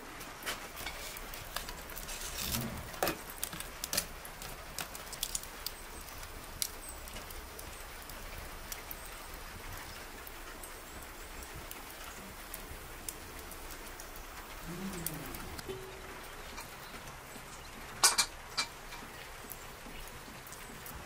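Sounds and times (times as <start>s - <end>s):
wood fire crackling and popping: 0.0s - 21.0s
burning logs knocking: 0.4s - 21.0s.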